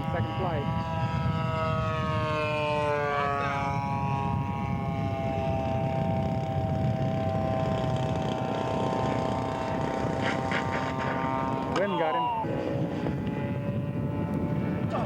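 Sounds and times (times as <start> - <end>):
model airplane engine: 0.0 - 15.0
wind rumble on microphone: 0.0 - 15.0.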